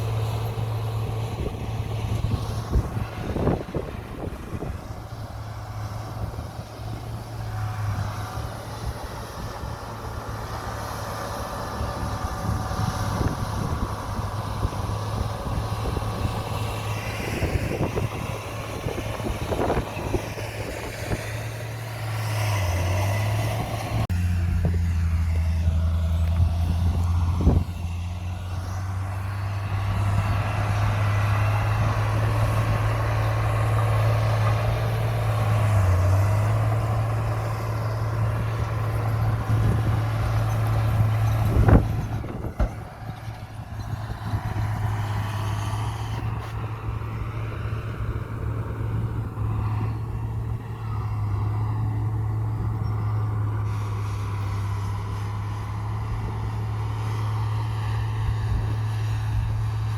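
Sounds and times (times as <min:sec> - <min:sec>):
diesel machinery engine: 0:00.0 - 0:59.9.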